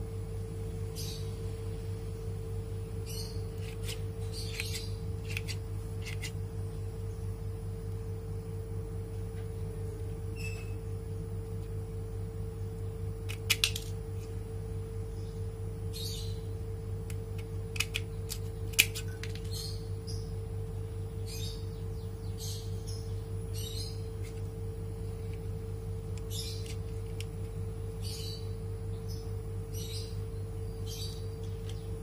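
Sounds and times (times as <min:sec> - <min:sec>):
steady electrical hum: 0:00.0 - 0:32.0.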